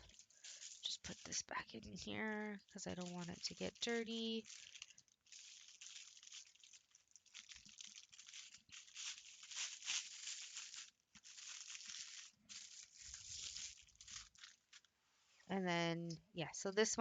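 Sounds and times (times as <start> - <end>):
plastic packaging crinkling: 0.0 - 14.9.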